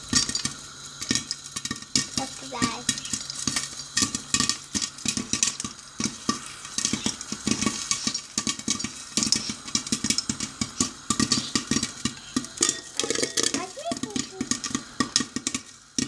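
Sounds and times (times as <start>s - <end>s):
popcorn popping in a pot: 0.0s - 16.0s.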